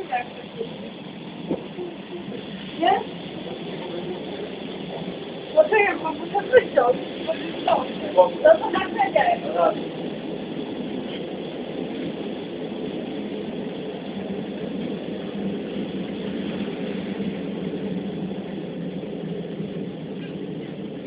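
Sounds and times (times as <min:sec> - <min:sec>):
low hum: 0:00.0 - 0:21.0
train running heard from inside: 0:00.0 - 0:21.0.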